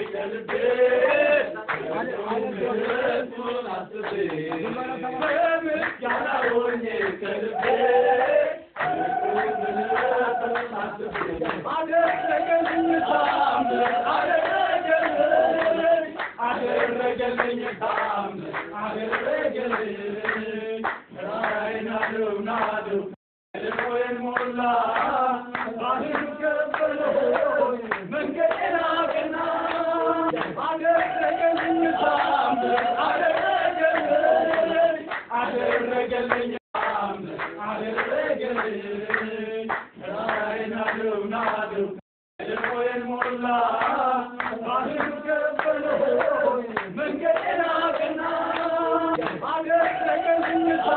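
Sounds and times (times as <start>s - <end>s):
hand clapping: 0.0s - 2.1s, 2.8s - 7.8s, 8.8s - 22.8s, 23.6s - 41.6s, 42.4s - 50.9s
group of voices singing: 0.0s - 50.9s.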